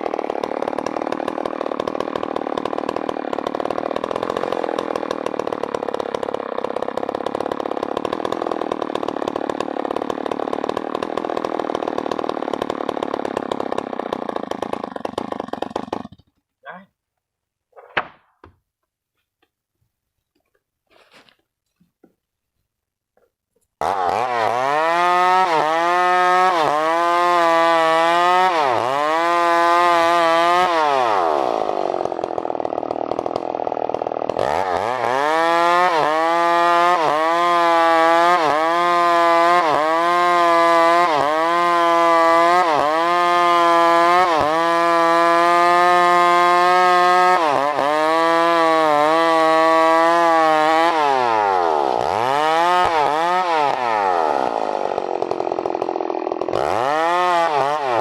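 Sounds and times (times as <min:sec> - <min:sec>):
chainsaw engine revving: 0:00.0 - 0:16.3, 0:23.8 - 0:58.0.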